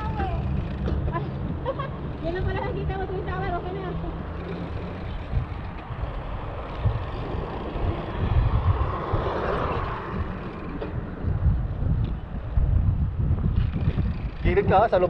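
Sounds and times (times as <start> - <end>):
moving vehicle noise: 0.0 - 15.0
wind buffeting microphone: 0.0 - 15.0.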